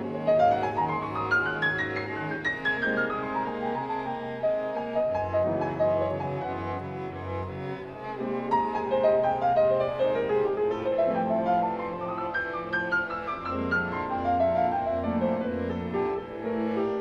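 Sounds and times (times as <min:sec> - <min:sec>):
string quartet holding notes: 0:00.0 - 0:17.0.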